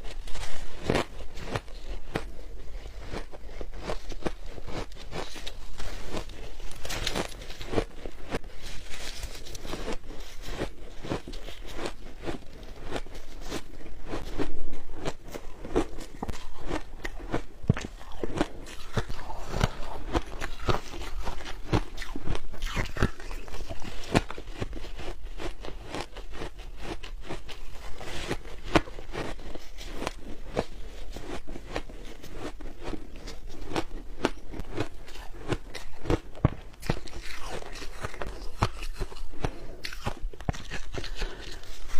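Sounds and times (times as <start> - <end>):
ice crunching and chewing: 0.0 - 41.9.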